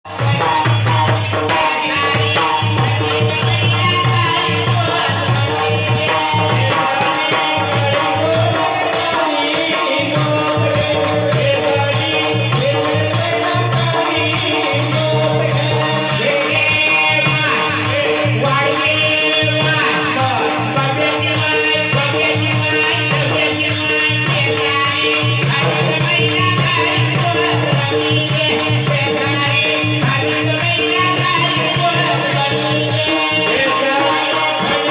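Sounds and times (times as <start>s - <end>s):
rattling percussion: 0.0s - 34.9s.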